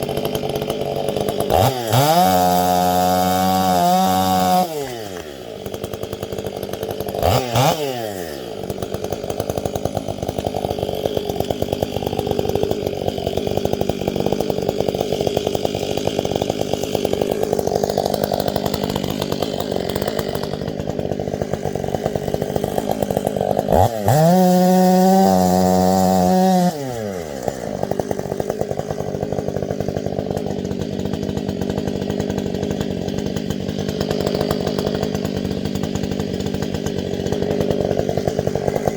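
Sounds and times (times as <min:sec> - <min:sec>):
chainsaw running and revving: 0:00.0 - 0:38.9.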